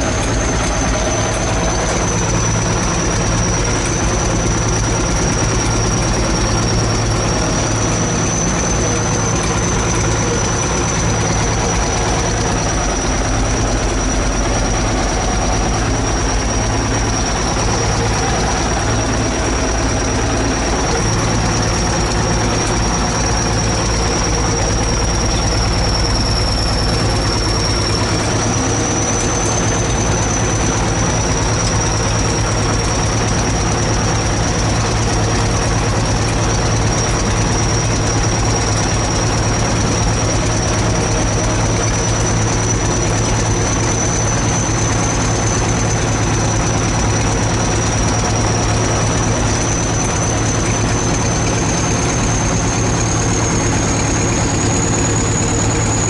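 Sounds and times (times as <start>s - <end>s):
bulldozer diesel engine running: 0.0s - 56.0s
thin high whine: 0.0s - 56.0s.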